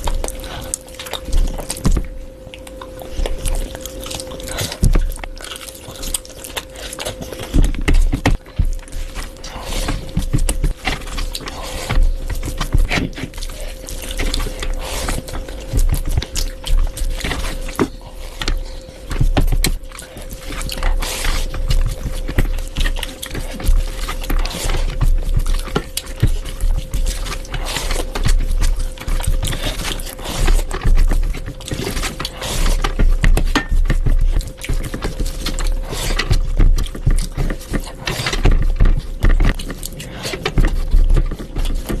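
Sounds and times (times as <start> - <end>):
chewing and biting food: 0.0 - 42.0
faint hum: 0.0 - 42.0.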